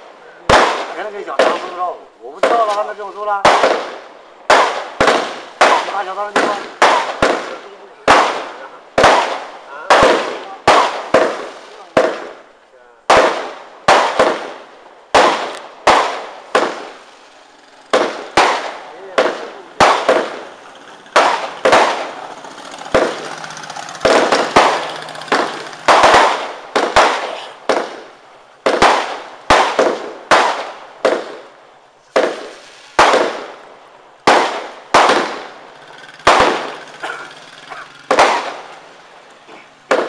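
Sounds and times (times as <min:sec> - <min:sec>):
firework bangs echoing: 0:00.0 - 0:40.0.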